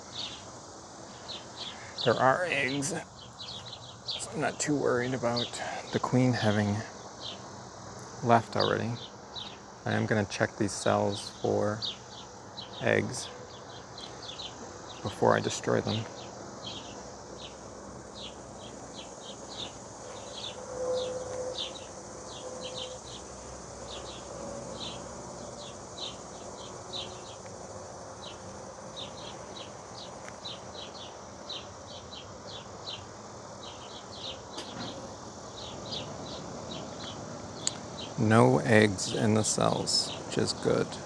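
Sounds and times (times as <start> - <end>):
crickets chirping: 0.0 - 41.0
honeybees buzzing: 0.0 - 41.0.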